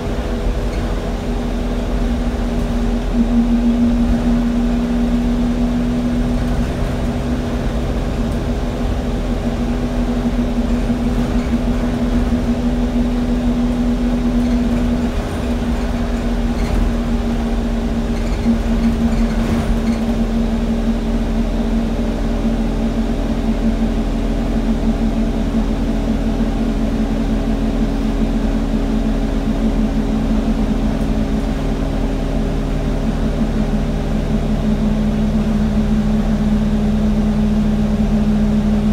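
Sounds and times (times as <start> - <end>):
bus engine drone from inside: 0.0 - 38.9.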